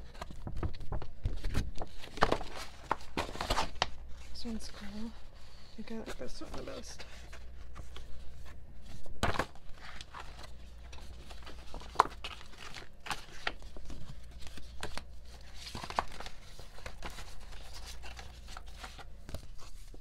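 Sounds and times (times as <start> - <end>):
paper and packaging rustling: 0.0 - 20.0.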